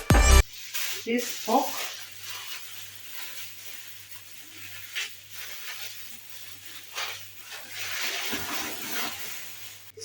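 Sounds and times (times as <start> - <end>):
scraping strokes: 0.0 - 9.9
faint hiss: 0.4 - 10.0.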